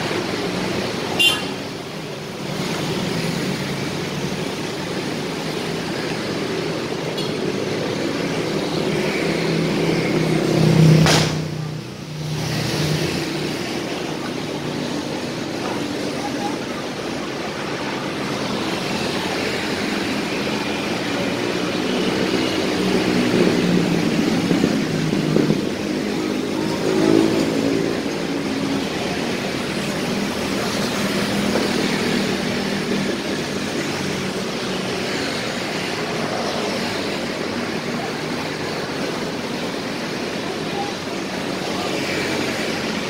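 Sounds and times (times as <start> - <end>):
motorcycles and cars passing: 0.0 - 43.0.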